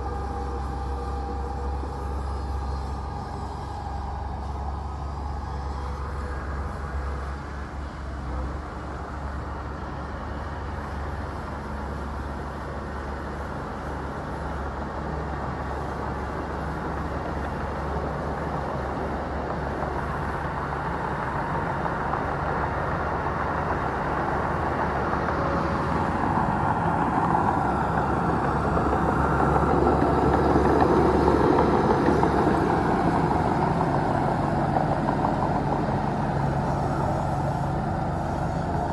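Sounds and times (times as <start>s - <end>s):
bulldozer diesel engine rumbling: 0.0s - 38.9s.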